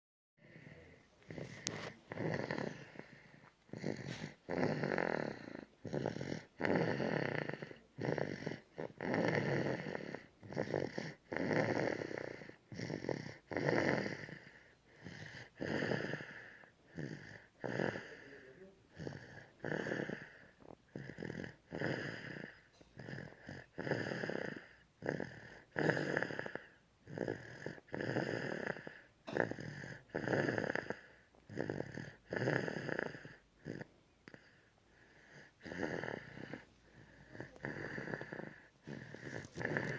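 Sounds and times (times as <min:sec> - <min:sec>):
person snoring: 0:00.4 - 0:39.9.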